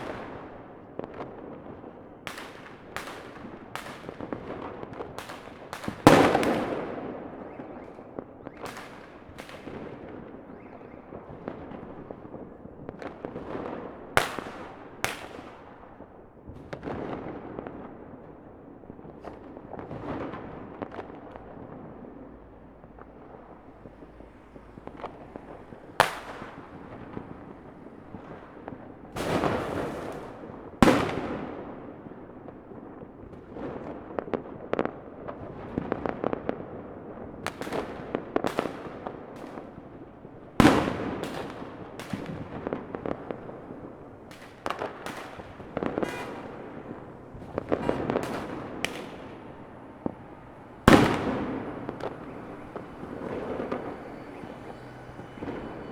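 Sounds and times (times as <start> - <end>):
distant fireworks bangs: 0.0 - 55.9
fireworks banging and crackling: 0.0 - 55.9.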